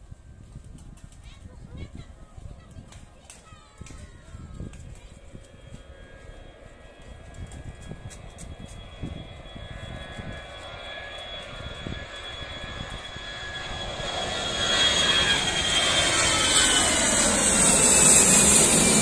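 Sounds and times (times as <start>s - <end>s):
jet airliner taking off: 2.4s - 19.0s.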